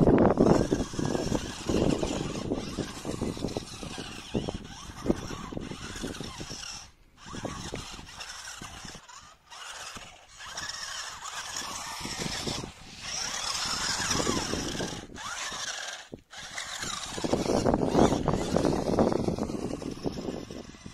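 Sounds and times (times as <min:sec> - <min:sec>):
rc car electric motors whining: 0:00.0 - 0:20.9
tyres scrabbling through dirt: 0:00.0 - 0:20.9.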